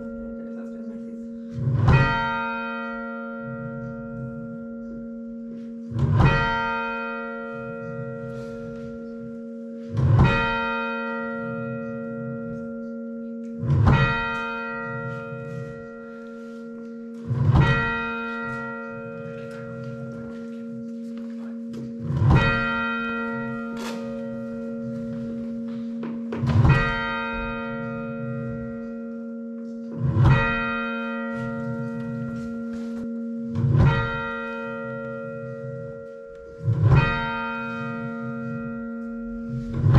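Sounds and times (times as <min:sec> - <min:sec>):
dull muffled bell strokes: 0:03.4 - 0:39.9
loud clear bell stroke: 0:05.6 - 0:39.9.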